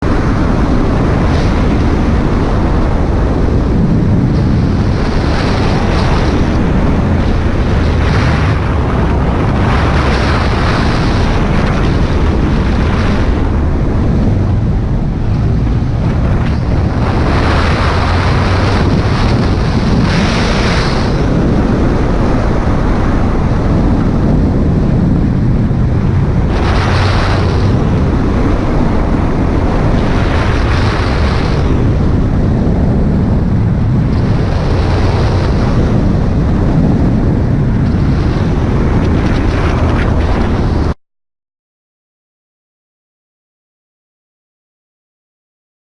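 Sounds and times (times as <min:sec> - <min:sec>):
motorcycle engine rumble: 0:00.0 - 0:41.0
wind rushing over microphone: 0:00.0 - 0:41.0.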